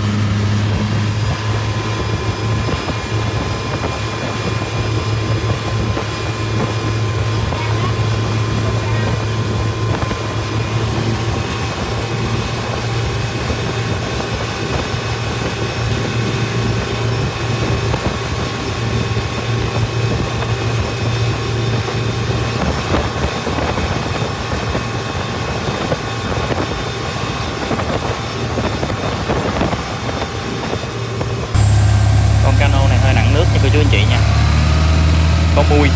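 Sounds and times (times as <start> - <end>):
boat diesel engine humming: 0.0 - 35.9
rushing wind and spray: 1.0 - 31.6.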